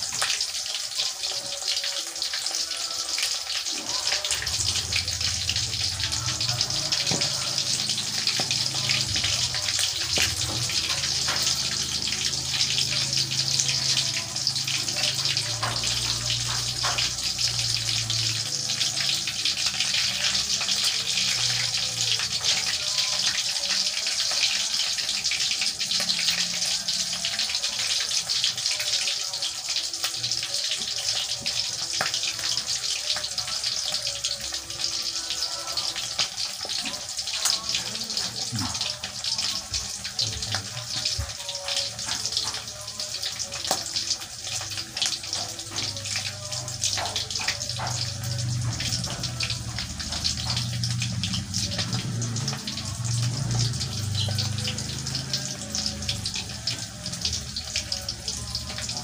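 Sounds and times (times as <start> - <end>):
chicken frying in hot oil: 0.0 - 59.0.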